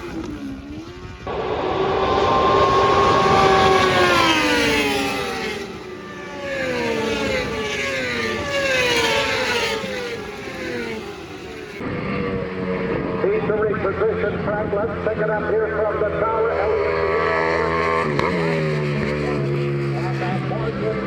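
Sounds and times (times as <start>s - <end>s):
motorbikes passing at speed: 0.0s - 21.0s.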